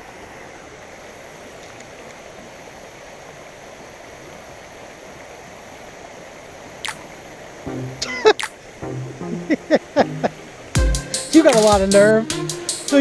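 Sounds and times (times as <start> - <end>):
water rushing over rocks: 0.0 - 10.8.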